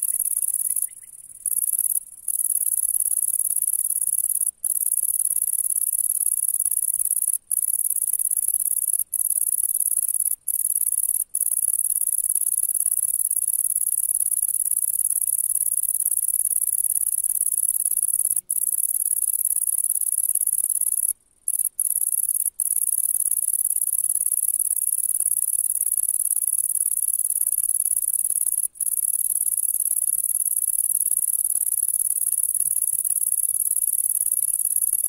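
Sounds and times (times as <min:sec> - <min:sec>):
bush-cricket buzzing song: 0:00.0 - 0:35.0.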